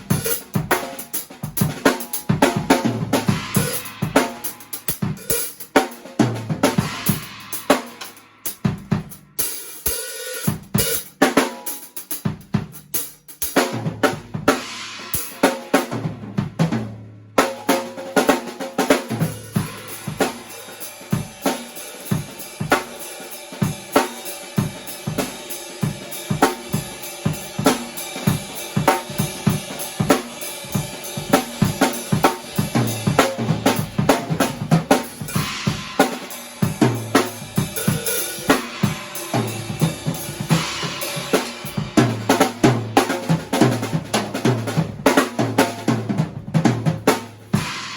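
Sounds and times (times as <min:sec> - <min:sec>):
drum-led music: 0:00.0 - 0:47.9.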